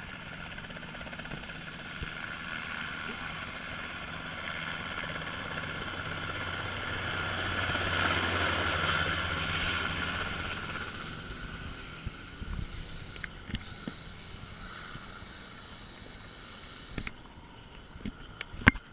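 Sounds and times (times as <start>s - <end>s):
helicopter engine and rotor: 0.0s - 18.9s.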